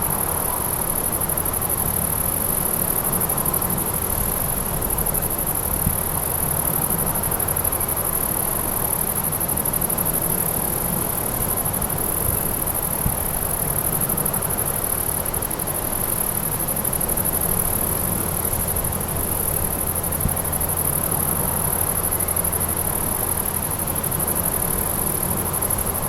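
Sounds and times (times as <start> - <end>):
grasshoppers stridulating: 0.0 - 26.0.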